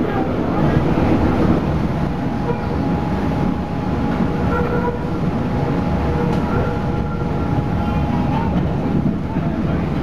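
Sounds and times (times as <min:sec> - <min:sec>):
streetcar rumble: 0:00.0 - 0:10.0.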